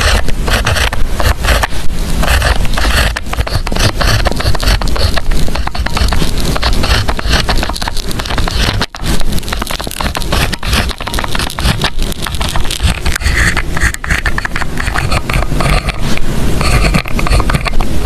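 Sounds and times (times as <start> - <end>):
pen scratching on paper: 0.0 - 17.9.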